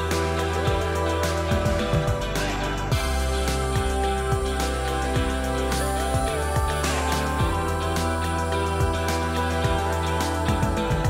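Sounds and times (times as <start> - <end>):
soft instrumental music with beat: 0.0 - 11.0.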